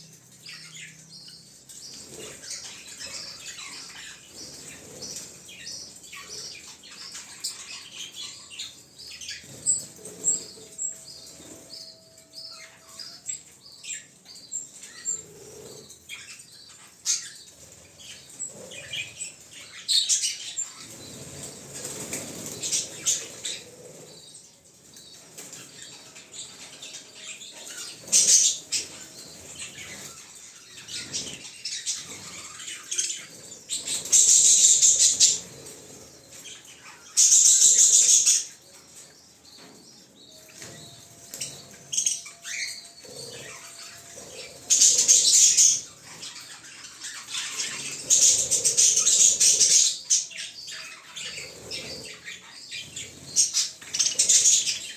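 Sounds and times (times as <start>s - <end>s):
soft bird chirps: 0.0s - 54.9s.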